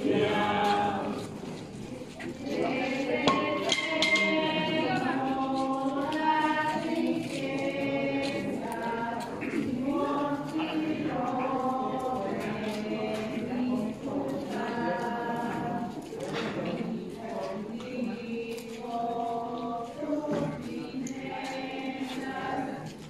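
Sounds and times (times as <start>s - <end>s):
crowd singing a hymn: 0.0s - 23.0s.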